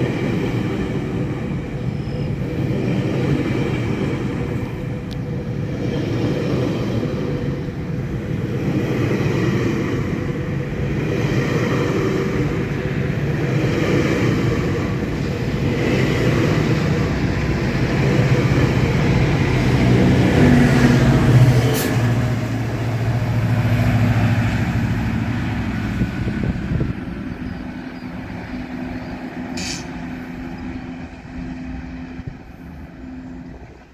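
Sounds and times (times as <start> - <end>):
diesel train engine drone: 0.0 - 33.9.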